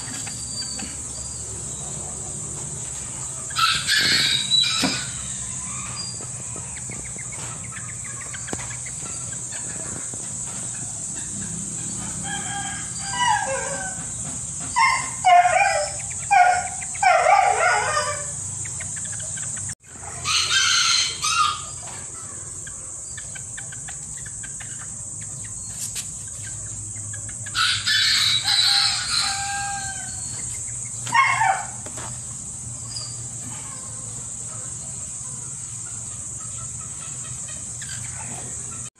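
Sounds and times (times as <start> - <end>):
roosters crowing: 0.0 - 25.7, 26.3 - 38.9.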